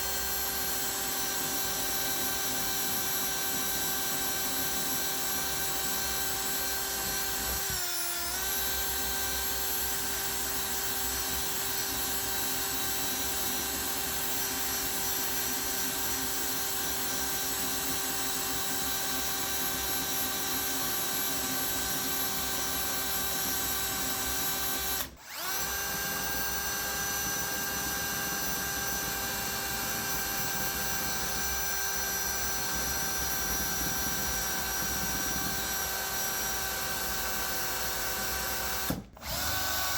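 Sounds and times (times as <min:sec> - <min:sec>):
electric drill motor whine: 0:00.0 - 0:39.9.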